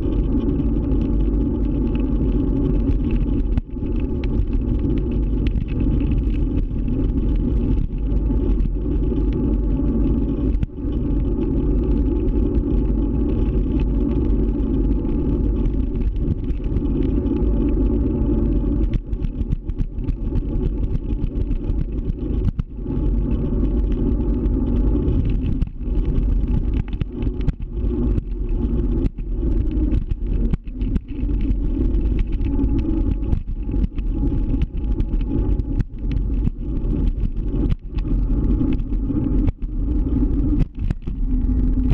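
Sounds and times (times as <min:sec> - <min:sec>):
road and wind noise: 0:00.0 - 0:41.9.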